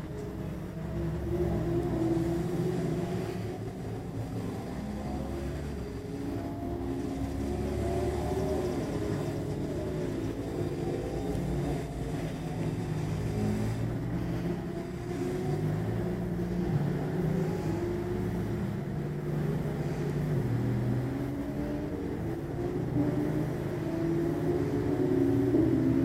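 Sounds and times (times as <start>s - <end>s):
distant race car engines: 0.0s - 26.0s.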